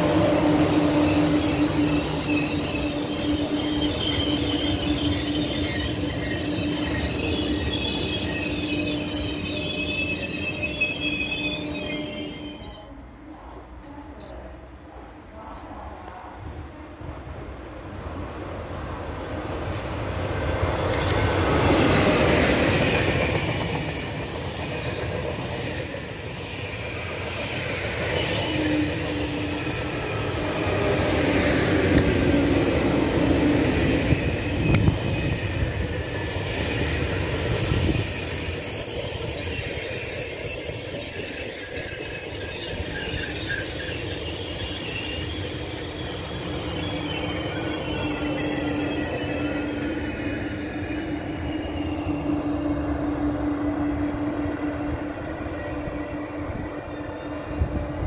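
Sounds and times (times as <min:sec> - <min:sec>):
train passing rumble: 0:00.0 - 0:58.0
high-pitched squeal: 0:00.4 - 0:12.9, 0:21.5 - 0:58.0.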